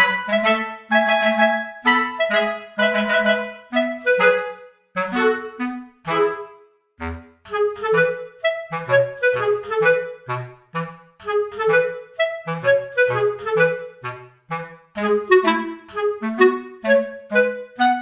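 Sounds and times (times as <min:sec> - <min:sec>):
bouncy instrumental tune: 0:00.0 - 0:18.0.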